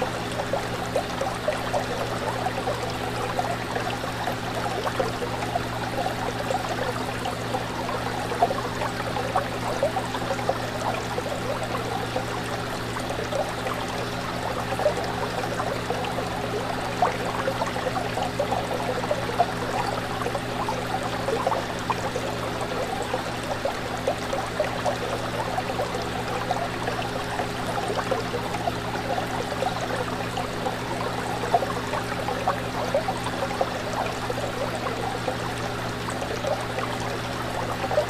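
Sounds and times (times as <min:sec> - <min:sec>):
fish tank water bubbling: 0:00.0 - 0:38.0.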